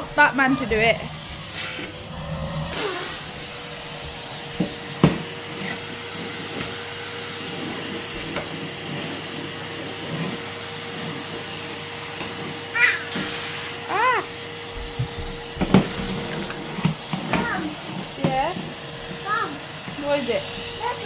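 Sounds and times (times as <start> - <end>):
vacuum cleaner whirring: 0.0 - 21.0.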